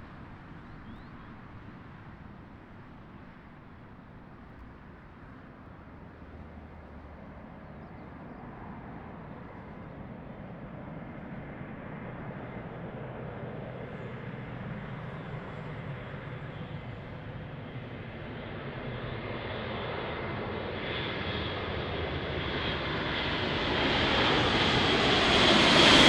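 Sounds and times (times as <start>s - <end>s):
turboprop aircraft drone: 0.0s - 26.0s.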